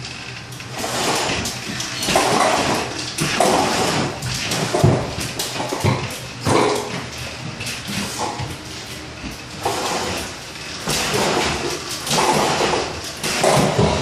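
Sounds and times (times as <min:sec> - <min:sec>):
tape rasping scrapes and swishes: 0:00.7 - 0:07.1, 0:07.7 - 0:14.0.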